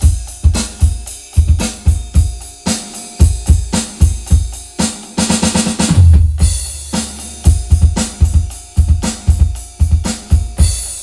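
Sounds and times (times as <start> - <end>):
drum fill of rapid hits: 0.0 - 11.0
drum kit beat: 0.0 - 11.0.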